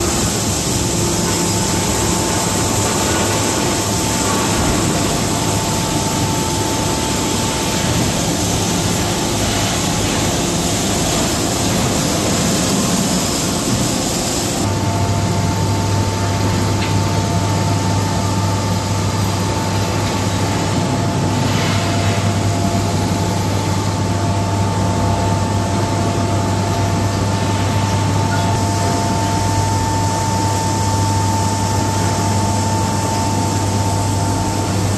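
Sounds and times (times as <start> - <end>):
high steady whine: 0.0 - 34.9
machinery low hum: 0.0 - 34.9.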